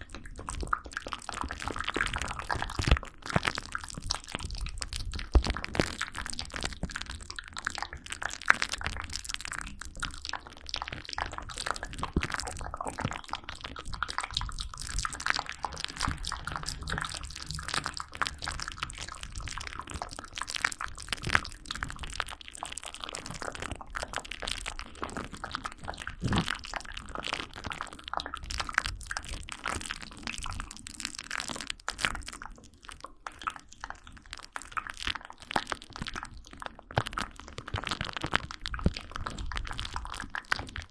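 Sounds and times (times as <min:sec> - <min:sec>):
small clicks and crunches: 0:00.1 - 0:40.9.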